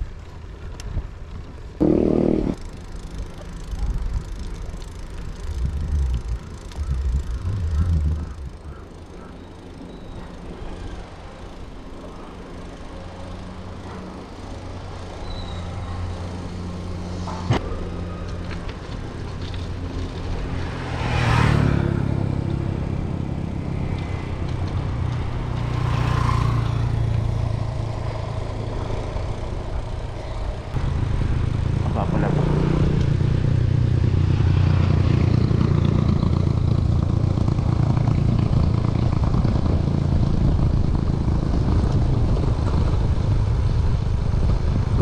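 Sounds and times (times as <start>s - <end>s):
vehicles passing on road: 0.0s - 45.0s.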